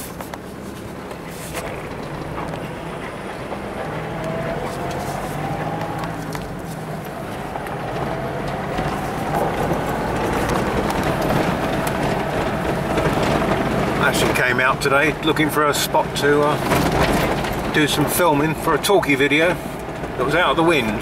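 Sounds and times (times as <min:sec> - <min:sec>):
small knocks and rattles: 0:00.0 - 0:19.1
car engine hum: 0:00.0 - 0:21.0
tyres on gravel: 0:00.0 - 0:21.0.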